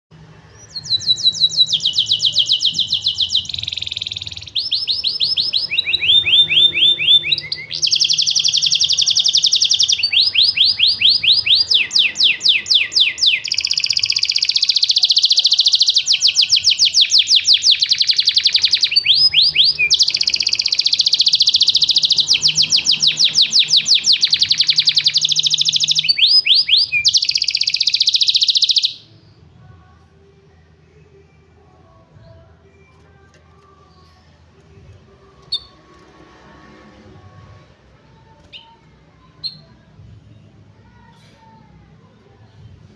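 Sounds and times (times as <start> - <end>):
canary singing trills: 0.4 - 29.9, 32.0 - 36.1, 37.2 - 41.6.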